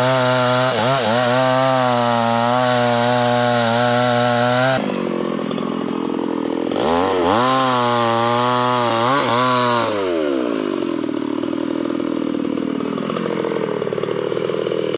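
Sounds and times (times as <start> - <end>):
chainsaw idling and revving: 0.0 - 14.9.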